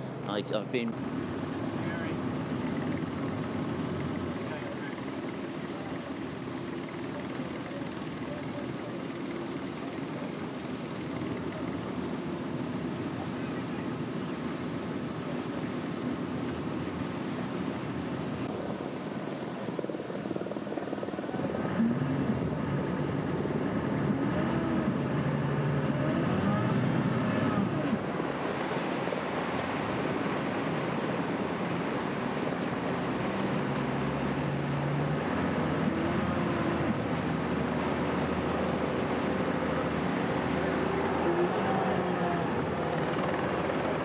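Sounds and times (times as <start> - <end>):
engine running: 0.0 - 44.0
water noise: 0.0 - 44.0
wind: 0.0 - 44.0.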